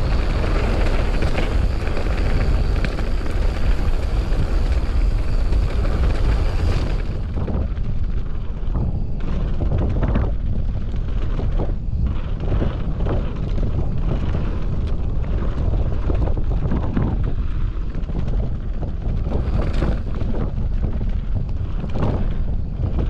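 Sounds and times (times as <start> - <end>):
bike knocking and rattling: 0.0 - 23.0
low rumble: 0.0 - 23.0
wind buffeting microphone: 0.0 - 23.0.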